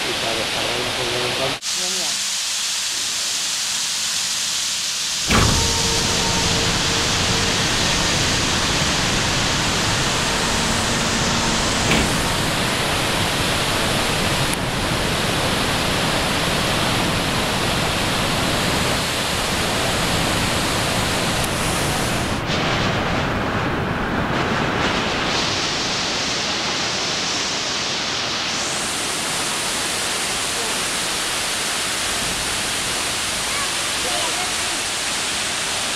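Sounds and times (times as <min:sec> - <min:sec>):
water rushing down spillway: 0:00.0 - 0:35.9.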